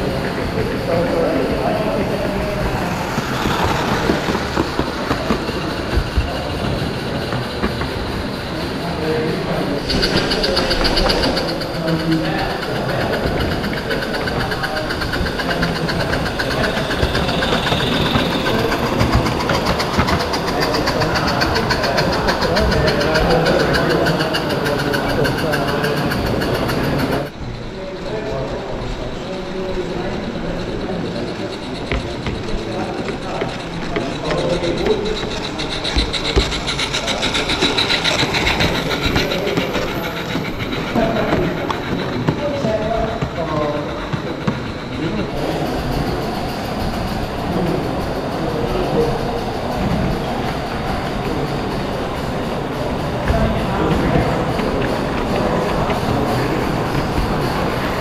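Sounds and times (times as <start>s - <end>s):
model steam locomotive chuffing: 0.0s - 58.0s.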